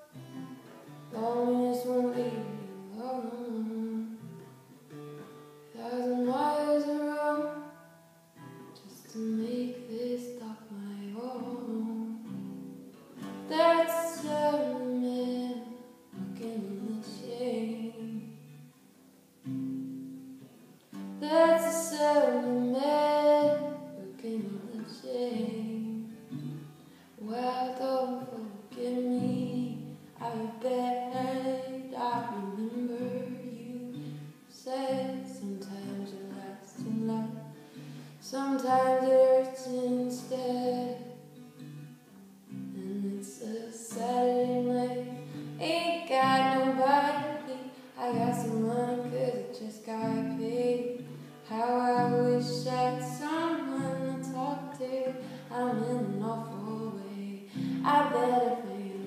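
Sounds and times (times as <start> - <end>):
person singing: 0.0 - 4.2, 8.7 - 12.3, 13.5 - 18.3, 21.2 - 26.2, 27.2 - 41.1, 42.7 - 59.0
strummed acoustic guitar: 0.0 - 59.0.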